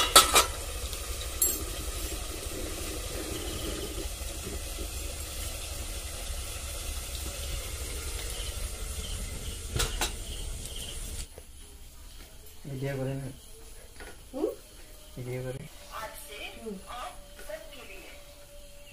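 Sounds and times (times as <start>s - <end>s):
curry sizzling in a pan: 0.0s - 18.9s.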